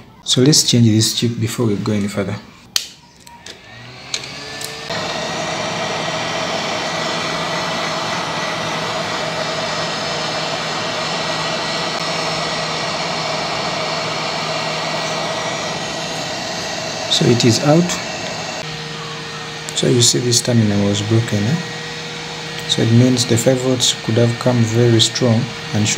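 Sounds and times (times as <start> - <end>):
hot air blower rushing: 3.3 - 25.9.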